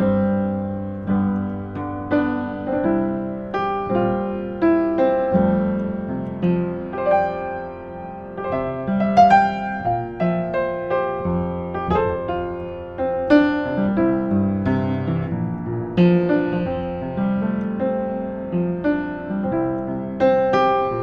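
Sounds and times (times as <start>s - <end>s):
upright piano playing chords: 0.0s - 21.0s.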